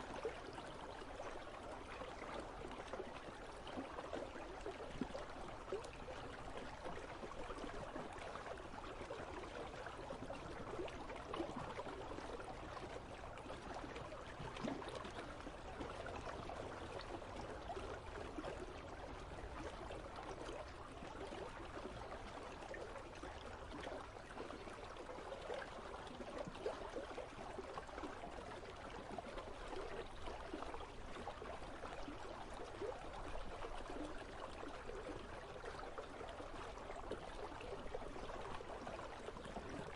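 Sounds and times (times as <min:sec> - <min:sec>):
small water splashes: 0:00.0 - 0:39.9.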